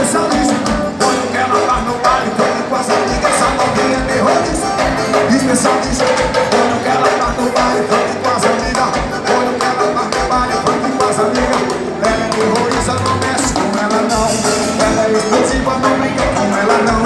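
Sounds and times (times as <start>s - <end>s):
drums and percussion: 0.0s - 17.0s
live band music: 0.0s - 17.0s.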